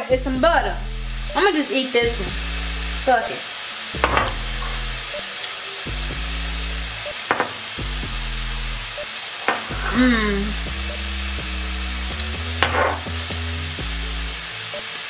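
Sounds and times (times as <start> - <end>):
chicken sizzling in a frying pan: 0.0 - 15.0
low background music beat: 0.0 - 15.0.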